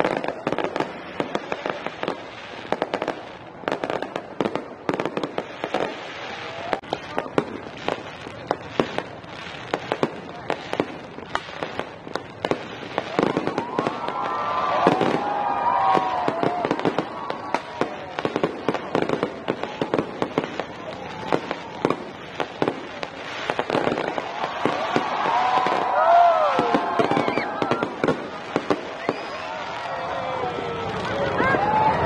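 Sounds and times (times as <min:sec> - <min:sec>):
fireworks cracking and banging: 0:00.0 - 0:32.0
people's voices: 0:05.7 - 0:32.0.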